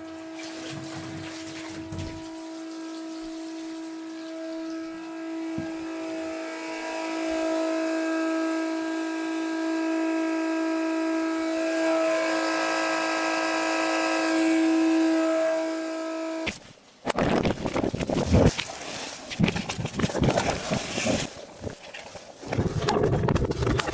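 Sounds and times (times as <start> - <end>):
water pump whining: 0.0 - 23.9.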